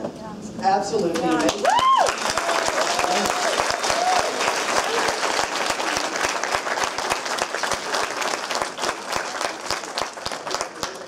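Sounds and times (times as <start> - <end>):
audience applauding: 1.3 - 11.0.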